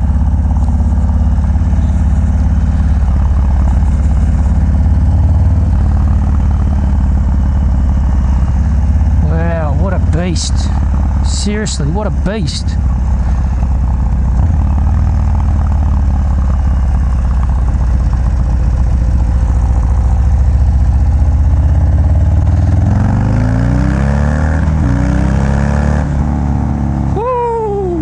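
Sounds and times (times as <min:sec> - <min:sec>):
motorcycle exhaust rumble: 0:00.0 - 0:28.0.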